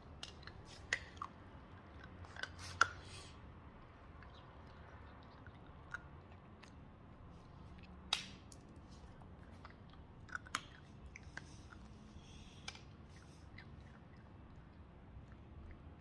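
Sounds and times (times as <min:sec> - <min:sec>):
dog chewing crunchy snack: 0:00.1 - 0:16.0.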